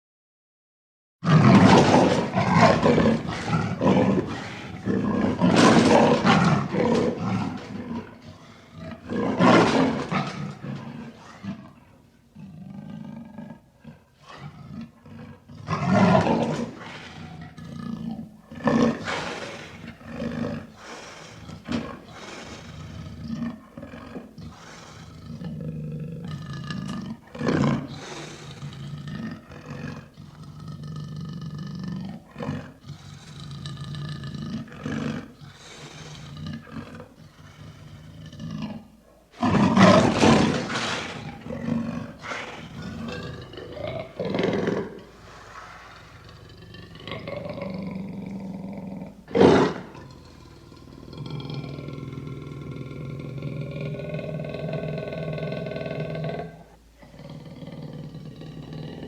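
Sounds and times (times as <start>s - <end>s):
big cat growling: 1.2s - 59.0s
big cat roaring: 1.2s - 59.0s.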